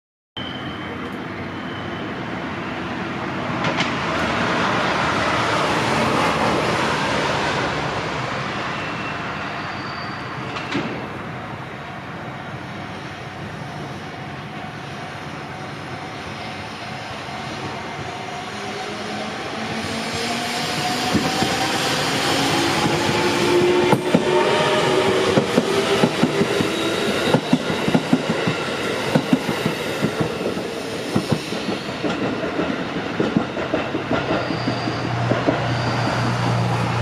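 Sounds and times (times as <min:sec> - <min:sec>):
train wheels on rails: 0:00.6 - 0:11.5, 0:12.5 - 0:37.0.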